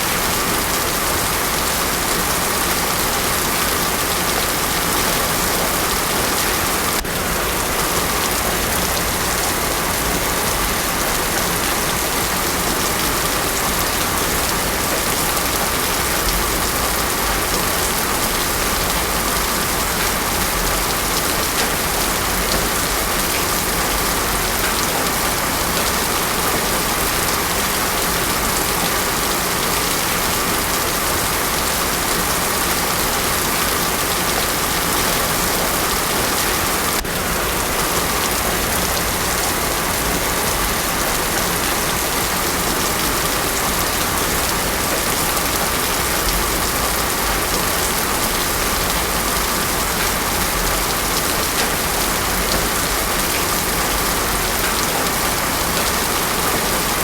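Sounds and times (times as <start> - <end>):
heavy rain on road: 0.0 - 57.0.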